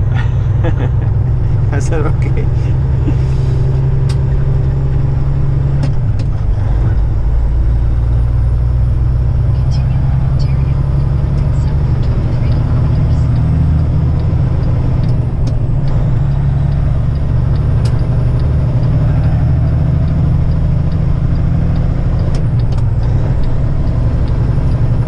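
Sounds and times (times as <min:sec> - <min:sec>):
truck diesel engine droning: 0:00.0 - 0:25.0.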